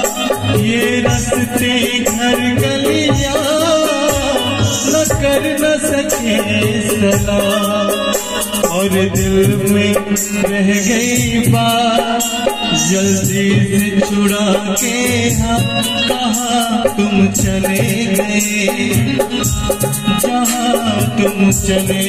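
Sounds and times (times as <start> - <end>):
keyboard melody: 0.0 - 22.0
low hand-drum beats: 0.0 - 22.0.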